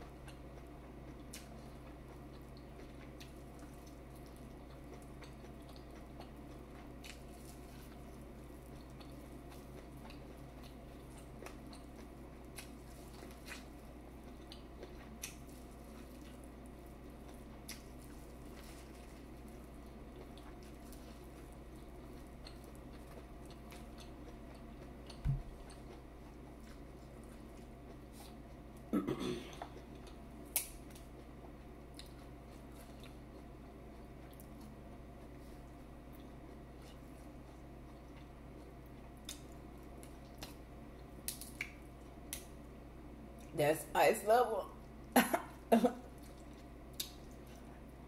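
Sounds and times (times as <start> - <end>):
person chewing food: 0.0 - 28.9, 29.5 - 42.7, 45.9 - 48.0
steady low hum: 0.0 - 48.0.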